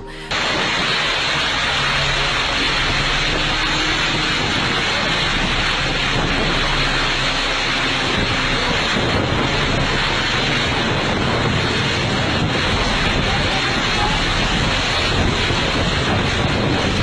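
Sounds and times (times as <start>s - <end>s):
heavy rain: 0.1s - 17.0s
strong storm wind: 0.2s - 17.0s
wind buffeting microphone: 0.3s - 17.0s.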